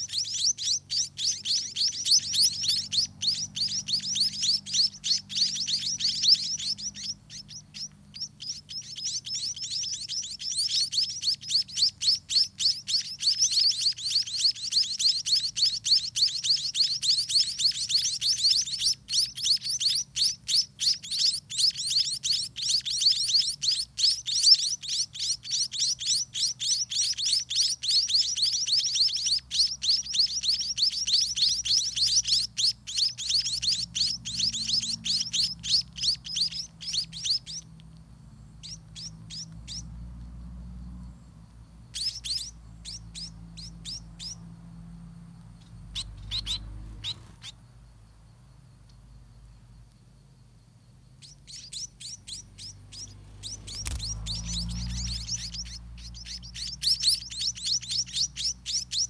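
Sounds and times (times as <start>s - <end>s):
nestlings chirping for food: 0.0s - 59.0s.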